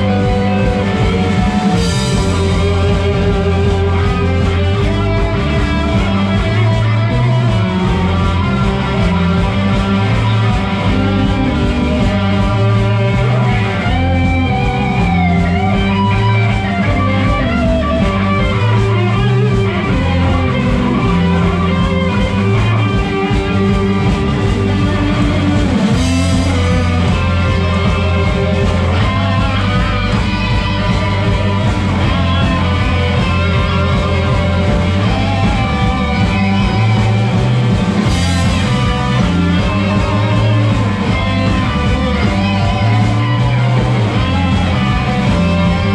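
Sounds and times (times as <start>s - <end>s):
electric guitar bending notes: 0.0s - 45.9s
rock band playing instrumental: 0.0s - 45.9s.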